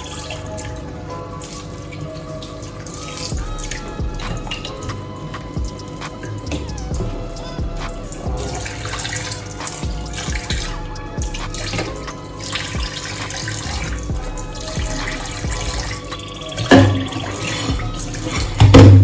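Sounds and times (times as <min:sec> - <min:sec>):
tap water running into sink: 0:00.0 - 0:19.0.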